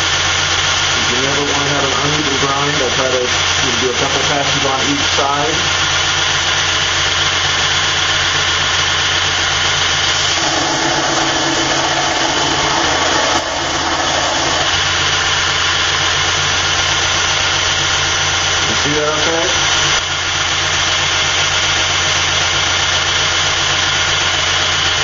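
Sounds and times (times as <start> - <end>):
belt grinder humming: 0.0 - 25.0.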